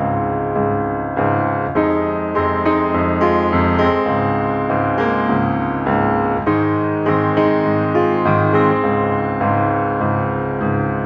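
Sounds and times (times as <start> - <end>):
slow piano tune: 0.0 - 11.0.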